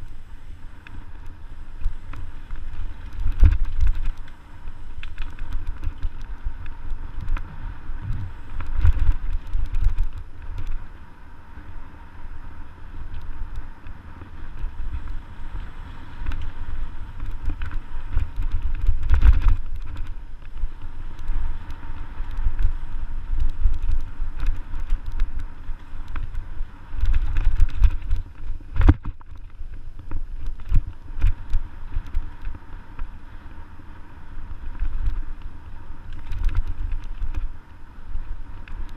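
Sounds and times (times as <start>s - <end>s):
wind buffeting microphone: 0.0s - 38.9s
bike rattles and knocks: 0.8s - 11.0s, 12.9s - 33.6s, 34.6s - 38.9s.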